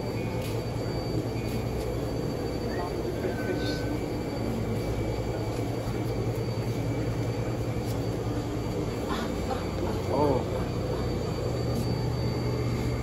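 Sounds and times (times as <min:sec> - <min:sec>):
machinery hum and rumble: 0:00.0 - 0:13.0.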